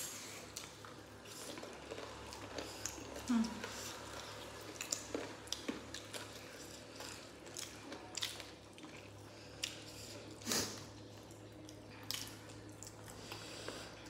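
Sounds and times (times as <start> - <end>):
loud long eating sound: 0.0 - 14.0
person chewing: 0.0 - 14.0.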